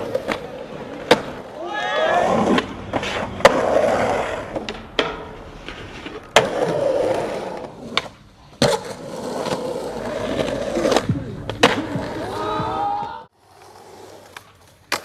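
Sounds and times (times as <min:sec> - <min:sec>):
skateboard clacking on ground: 0:00.0 - 0:15.0
skateboard wheels rolling on concrete: 0:00.0 - 0:15.0.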